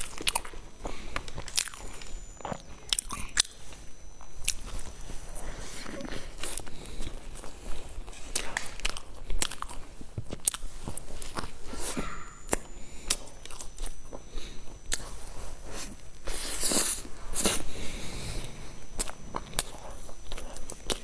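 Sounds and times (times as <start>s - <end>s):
chewing: 0.0s - 3.8s, 4.4s - 21.0s.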